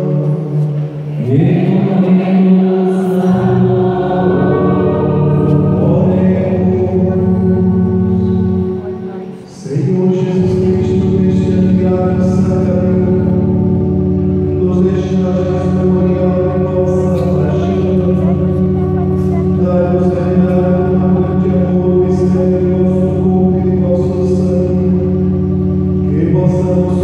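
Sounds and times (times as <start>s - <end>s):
congregation singing a hymn: 0.0s - 27.0s
electronic keyboard chord: 0.0s - 27.0s.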